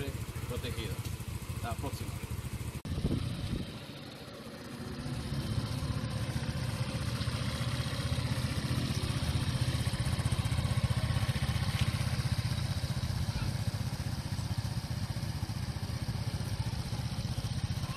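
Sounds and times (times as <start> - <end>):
scooter engine running: 0.0 - 17.9.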